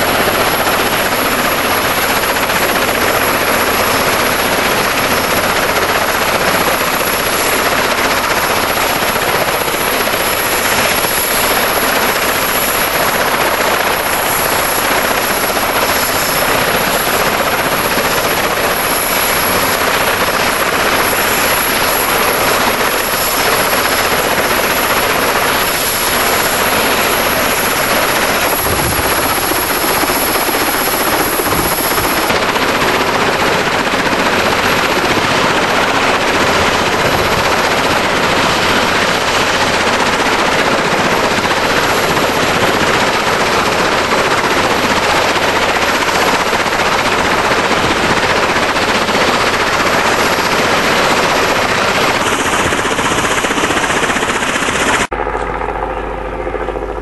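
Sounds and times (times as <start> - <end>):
helicopter turbine and rotor noise: 0.0 - 57.0.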